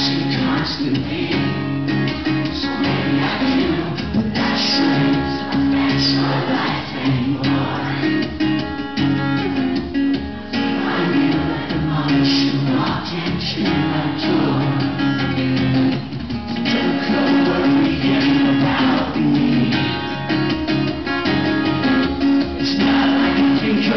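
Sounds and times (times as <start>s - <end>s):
acoustic guitars strumming: 0.0s - 23.9s.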